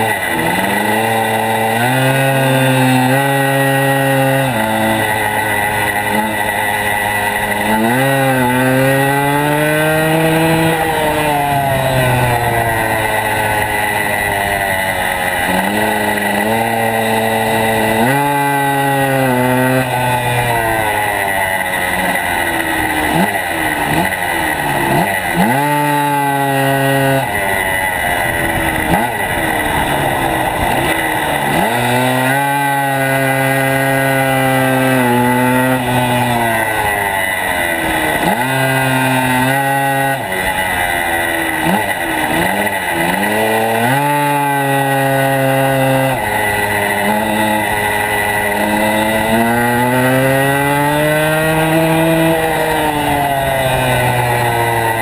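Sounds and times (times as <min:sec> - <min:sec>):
small racing engine revving: 0:00.0 - 0:55.0.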